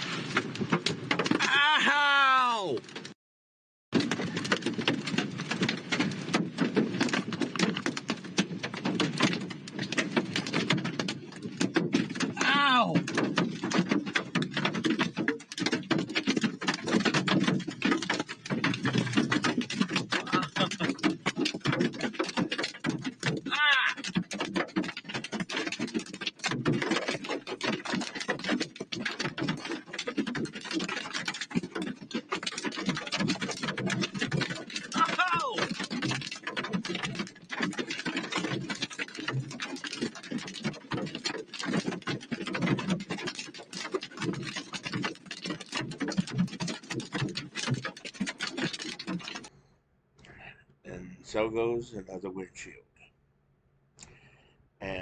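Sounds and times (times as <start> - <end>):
hail clattering on car roof: 0.0 - 2.1, 2.8 - 3.1, 4.0 - 49.5.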